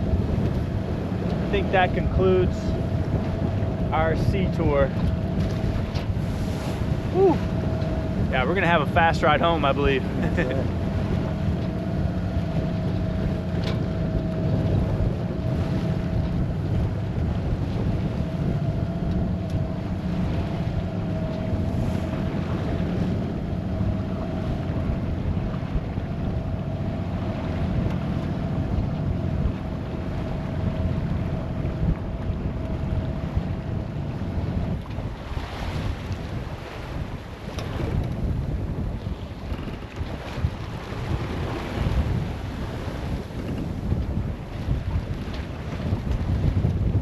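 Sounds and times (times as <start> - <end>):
water rushing along hull: 0.0 - 47.0
wind buffeting microphone: 0.0 - 47.0.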